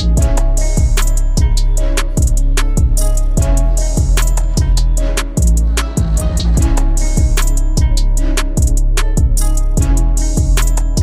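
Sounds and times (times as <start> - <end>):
hi-hat ticks: 0.0 - 11.0
kick drum beat: 0.0 - 11.0.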